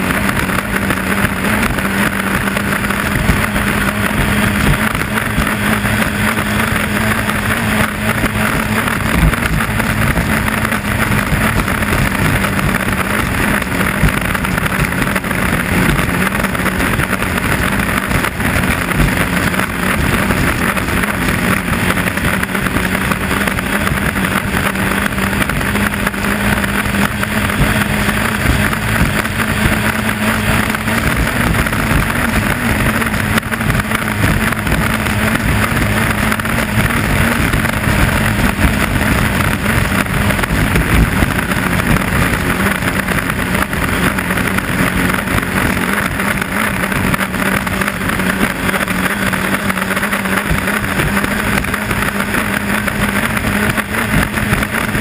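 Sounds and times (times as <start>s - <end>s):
boat engine drone: 0.0s - 55.0s
rush of wind and spray: 0.0s - 55.0s.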